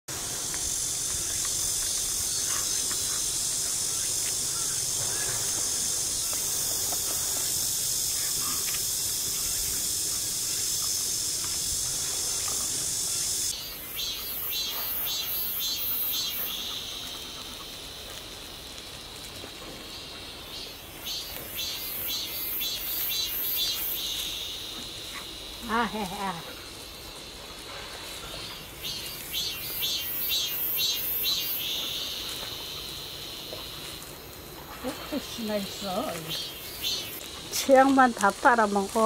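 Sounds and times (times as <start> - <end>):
insects buzzing: 0.1 - 39.0.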